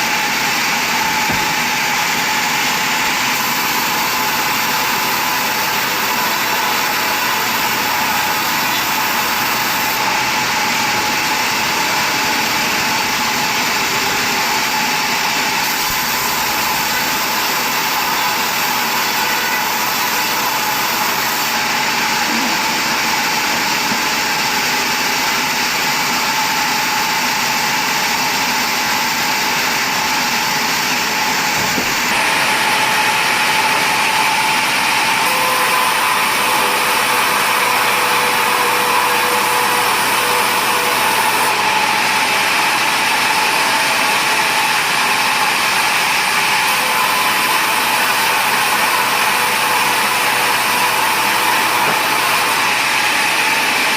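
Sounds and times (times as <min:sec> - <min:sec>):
sawmill machinery droning: 0:00.0 - 0:53.9.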